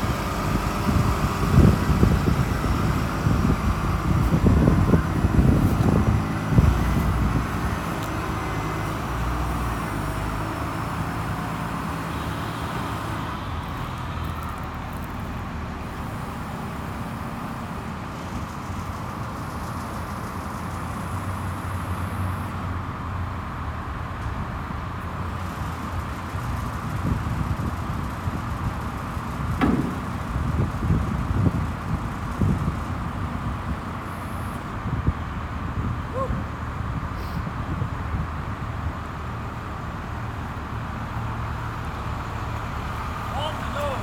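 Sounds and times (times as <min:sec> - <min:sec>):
truck engine running: 0:00.0 - 0:36.1.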